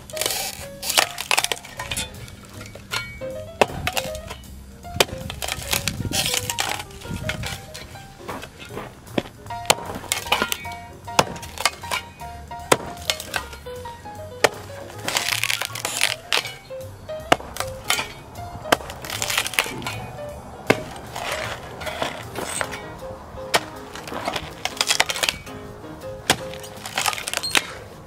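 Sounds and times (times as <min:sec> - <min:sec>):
shovel chopping into wood: 0:00.0 - 0:13.8, 0:14.4 - 0:25.6, 0:26.2 - 0:28.0
background music with melody: 0:00.0 - 0:28.0
wood cracking and splintering: 0:00.0 - 0:28.0.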